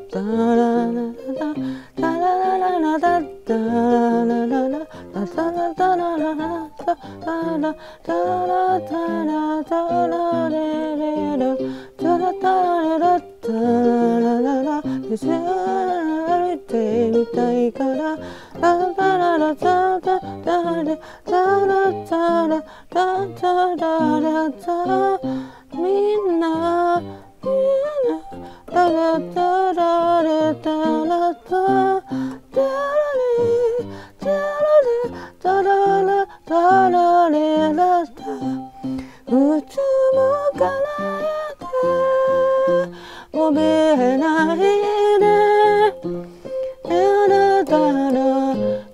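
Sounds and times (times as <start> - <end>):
keyboard accompaniment: 0.0 - 48.9
woman singing: 0.0 - 48.9.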